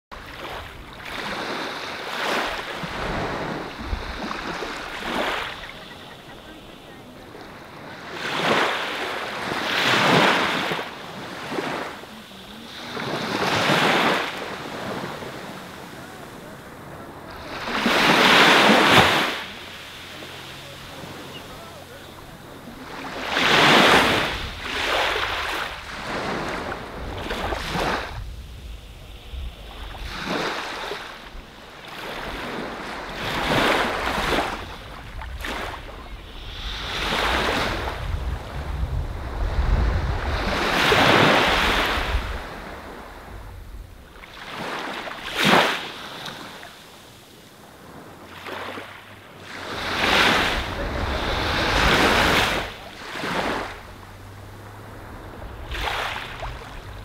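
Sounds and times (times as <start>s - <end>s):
ocean surf washing onto beach: 0.1s - 57.0s.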